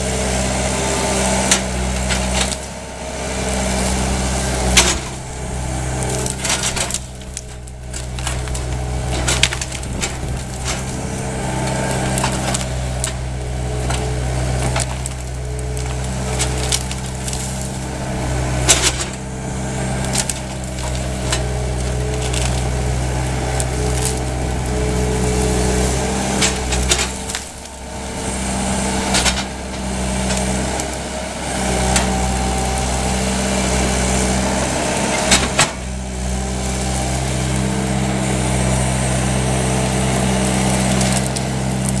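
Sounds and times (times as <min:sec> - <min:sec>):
diesel engine running: 0:00.0 - 0:42.0
branches snapping: 0:03.5 - 0:37.7, 0:39.6 - 0:42.0.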